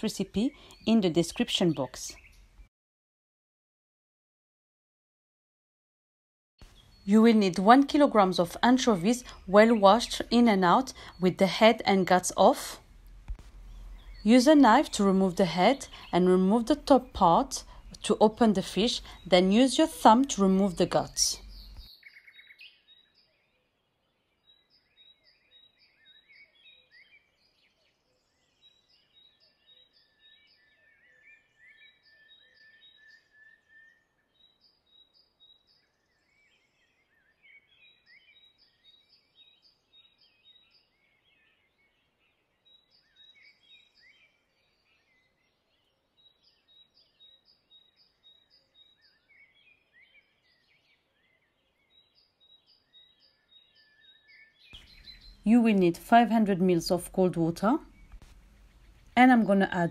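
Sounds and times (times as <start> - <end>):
bird chirping: 0.0 - 2.7, 6.6 - 59.9.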